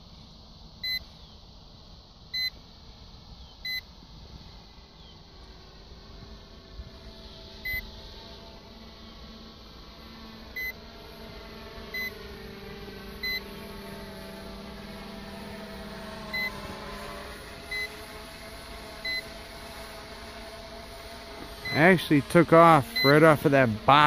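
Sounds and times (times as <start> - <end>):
quadcopter motors hum: 0.0 - 24.0.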